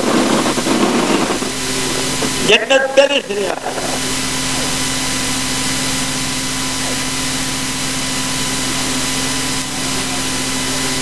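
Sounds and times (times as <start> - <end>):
faint steady tones: 0.0 - 11.0
low electrical hum: 0.0 - 11.0
tape hiss: 0.0 - 11.0.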